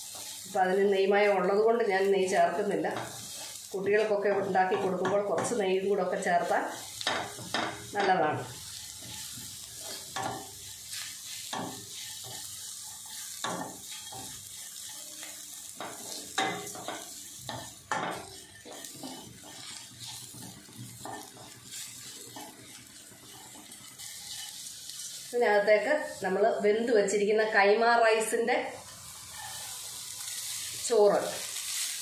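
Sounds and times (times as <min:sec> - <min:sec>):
spatula scraping a pan: 0:00.0 - 0:01.1, 0:02.6 - 0:25.3, 0:29.0 - 0:32.0
frying sizzle: 0:00.0 - 0:32.0.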